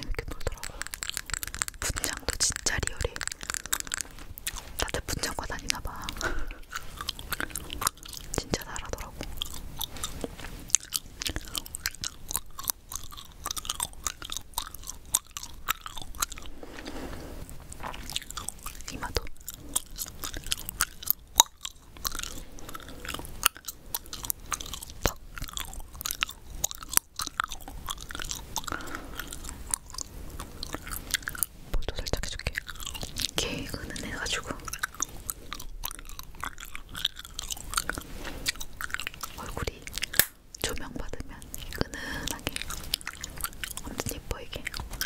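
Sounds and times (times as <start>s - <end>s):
gum chewing: 0.0s - 45.0s.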